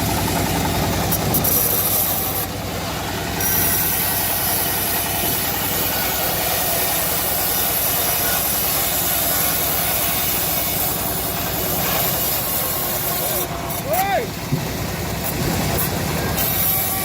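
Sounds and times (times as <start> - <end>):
bandsaw mill engine running: 0.0 - 17.0
saw blade cutting log: 0.0 - 17.0.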